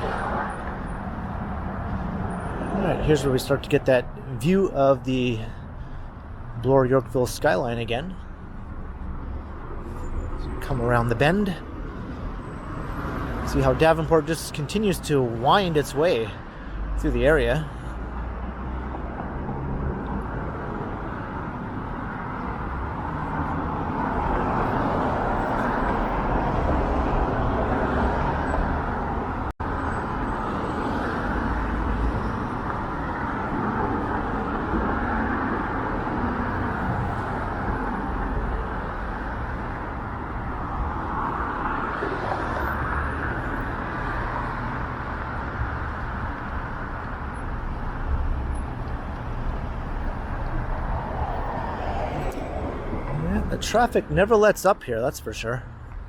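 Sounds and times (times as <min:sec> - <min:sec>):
cars passing on busy street: 0:00.0 - 0:56.0.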